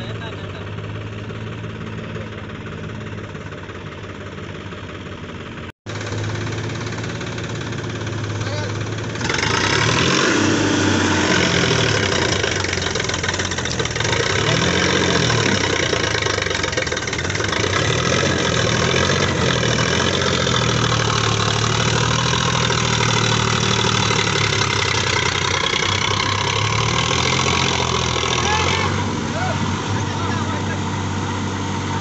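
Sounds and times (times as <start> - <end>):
diesel tractor engines under load: 0.0 - 32.0.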